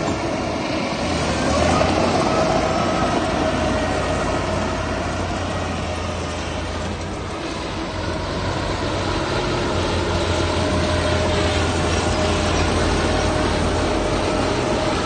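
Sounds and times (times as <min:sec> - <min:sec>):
heavy diesel machinery engine hum: 0:00.0 - 0:15.0.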